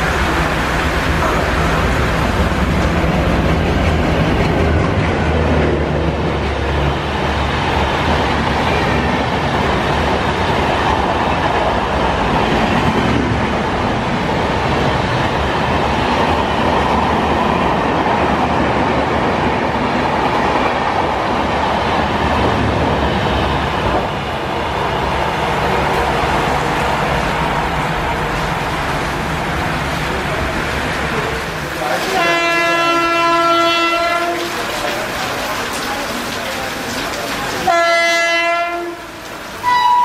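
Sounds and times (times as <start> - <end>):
diesel locomotive engine drone: 0.0 - 40.0
heavy rain: 0.0 - 40.0
train coaches rumbling and clattering: 0.0 - 40.0.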